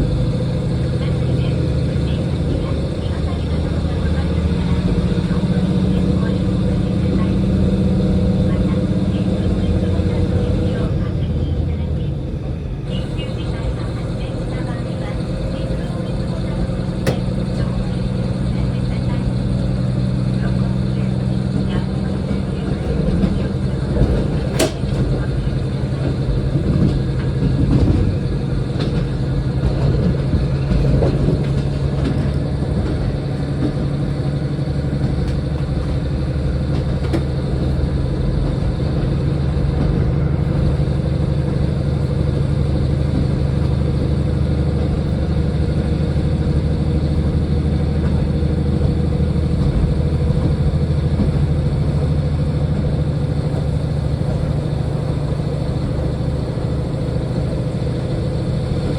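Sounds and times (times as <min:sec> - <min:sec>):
diesel train engine drone: 0:00.0 - 0:58.9
train running noise: 0:00.0 - 0:58.9.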